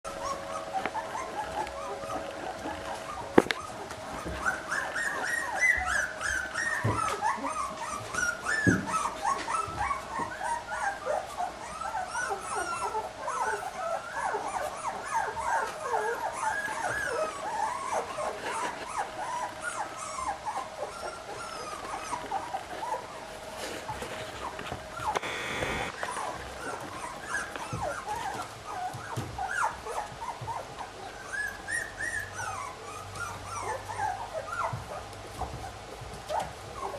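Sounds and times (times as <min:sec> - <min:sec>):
faint steady hum: 0:00.1 - 0:36.9
puppies whimpering and squeaking: 0:00.1 - 0:36.9.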